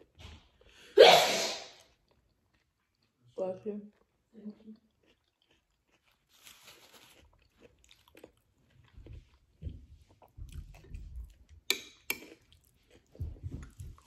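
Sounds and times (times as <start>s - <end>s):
close-up chewing: 1.8s - 14.0s.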